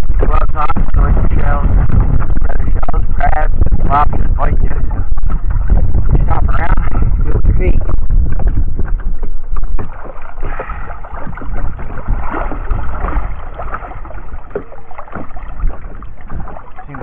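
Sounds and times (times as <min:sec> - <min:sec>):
water sloshing and splashing: 0:00.0 - 0:17.0
wind buffeting microphone: 0:00.0 - 0:17.0.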